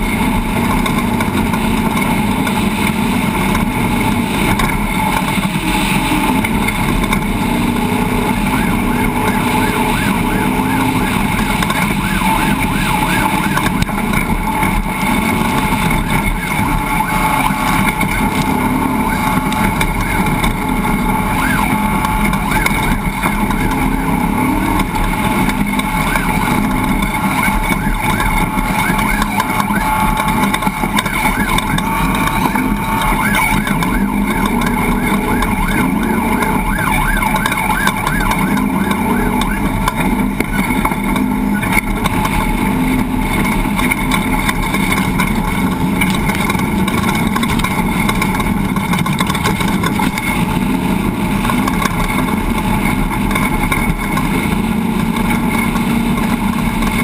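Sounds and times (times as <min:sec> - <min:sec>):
rapidly warbling tone: 0:00.0 - 0:57.0
vehicle engine running: 0:00.0 - 0:57.0.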